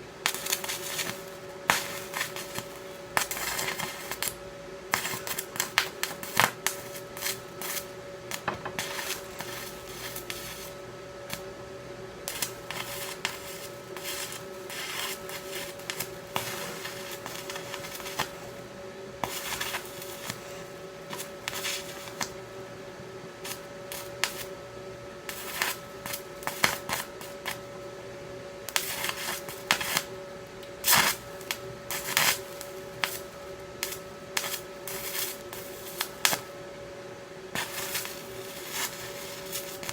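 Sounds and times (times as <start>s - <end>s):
steady hum: 0.0s - 39.9s
welding arc crackling and spitting: 0.2s - 11.5s, 12.3s - 22.5s, 23.4s - 24.6s, 25.3s - 27.8s, 28.6s - 36.6s, 37.5s - 39.9s.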